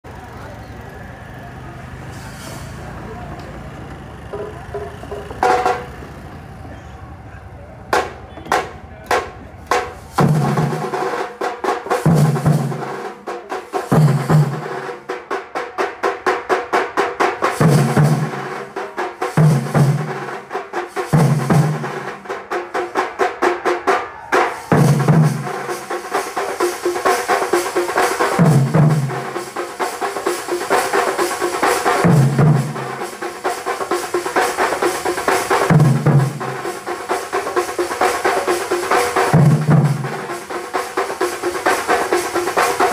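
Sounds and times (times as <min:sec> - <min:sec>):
drum troupe playing fast rhythm: 0:04.2 - 0:06.2, 0:07.9 - 0:42.9.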